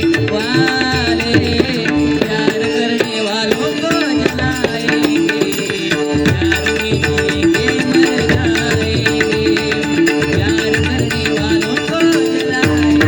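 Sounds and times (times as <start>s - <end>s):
instrumental devotional melody: 0.0s - 13.0s
tabla rhythm: 0.0s - 13.0s.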